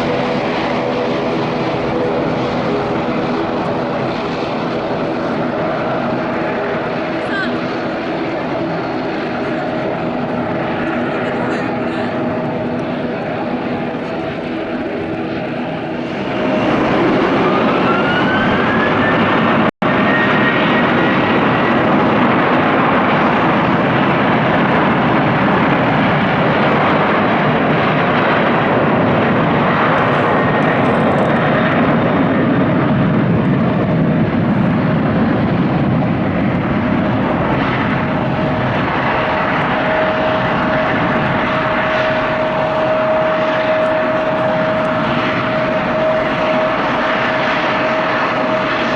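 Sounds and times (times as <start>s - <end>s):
jet airliner taking off: 0.0s - 48.9s.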